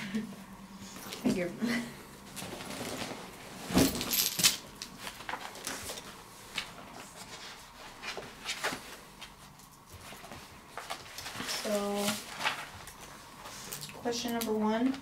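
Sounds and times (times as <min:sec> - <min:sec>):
rustling of papers: 0:02.3 - 0:15.0.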